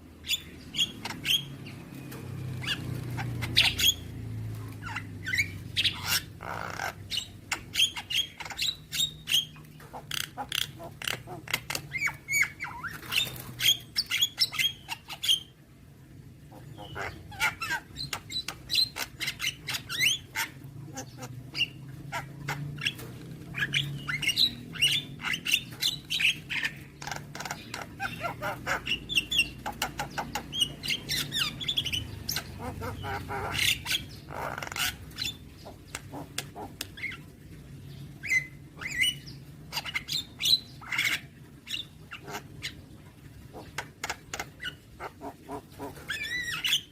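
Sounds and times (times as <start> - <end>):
bird singing chattering song: 0.1 - 15.5, 16.5 - 42.9, 43.6 - 46.9.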